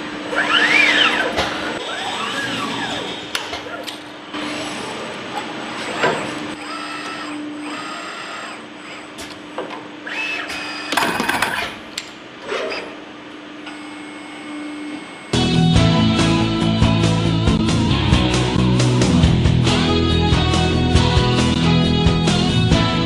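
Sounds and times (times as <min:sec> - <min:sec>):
machinery humming and whirring: 0:00.0 - 0:22.9.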